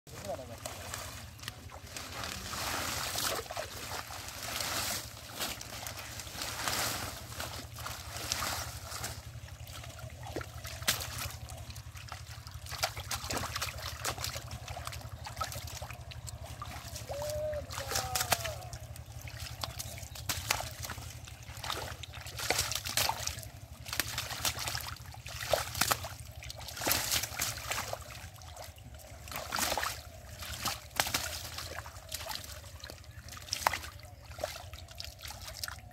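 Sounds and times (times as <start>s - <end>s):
splashing in shallow water: 0.1s - 35.9s
water dribbling: 0.1s - 35.9s.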